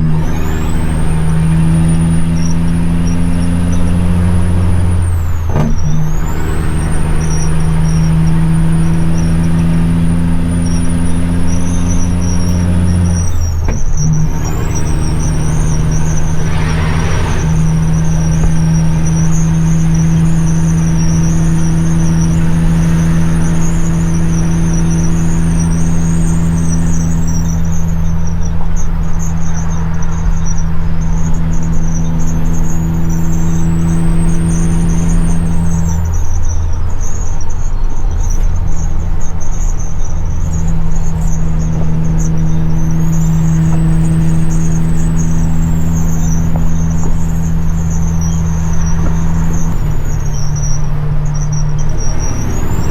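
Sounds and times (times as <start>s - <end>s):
turbo whistle: 0.0s - 28.4s, 31.2s - 37.2s, 40.4s - 52.9s
diesel truck engine: 0.0s - 52.9s.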